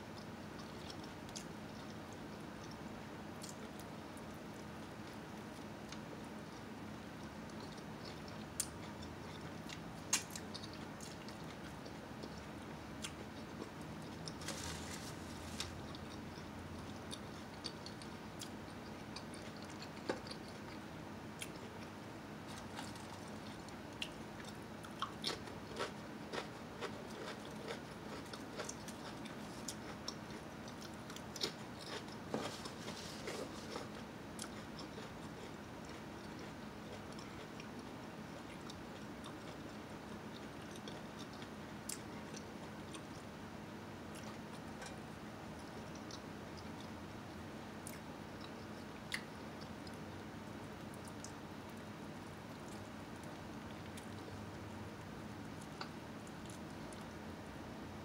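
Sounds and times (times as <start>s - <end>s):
faint steady hum: 0.0s - 58.0s
chewing and crunching: 0.1s - 43.4s, 44.0s - 57.1s.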